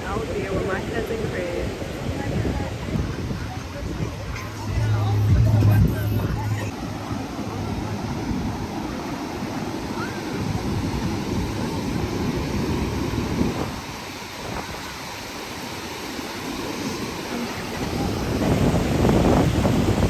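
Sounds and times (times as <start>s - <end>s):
ocean surf washing onto beach: 0.0s - 20.0s
wind on microphone: 0.0s - 20.0s.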